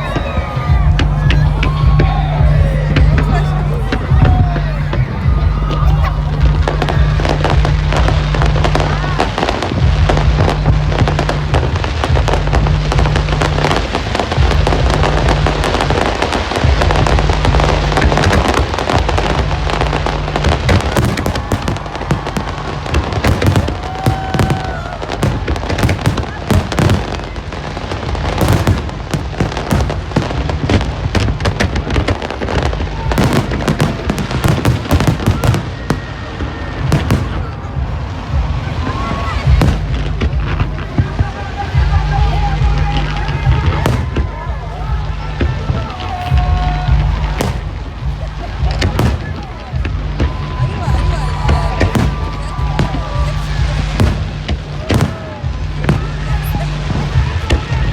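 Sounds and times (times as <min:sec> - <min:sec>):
fireworks bursting and crackling: 0:00.0 - 0:57.9
music with deep bass line: 0:00.0 - 0:57.9.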